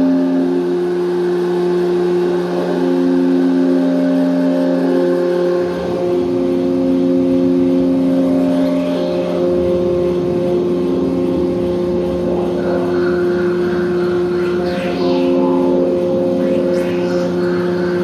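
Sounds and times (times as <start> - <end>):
drone of pitched tones: 0.0 - 18.0.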